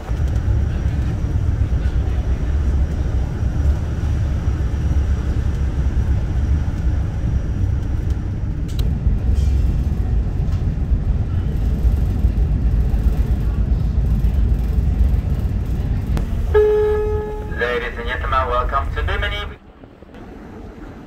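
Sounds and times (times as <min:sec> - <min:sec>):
ferry engines rumbling: 0:00.0 - 0:21.0.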